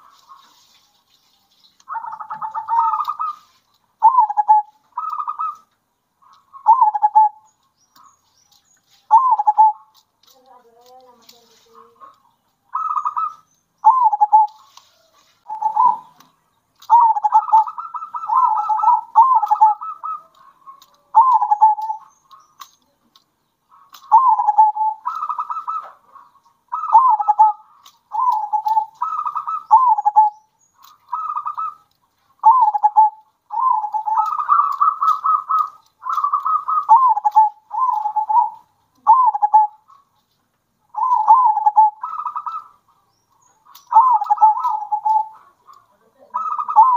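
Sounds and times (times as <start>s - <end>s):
doves cooing: 1.8s - 8.2s, 9.0s - 40.2s, 40.9s - 46.9s.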